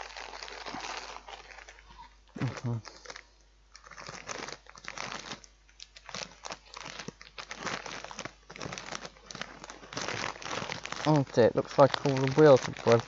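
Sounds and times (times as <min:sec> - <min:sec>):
plastic snack packet crinkling: 0:00.0 - 0:13.0.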